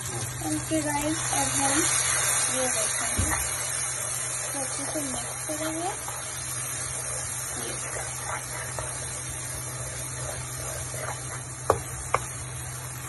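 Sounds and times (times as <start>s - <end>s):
beans sizzling in oil: 0.0s - 13.0s
steady low hum: 0.0s - 13.0s
spatula scraping pan: 1.6s - 12.3s.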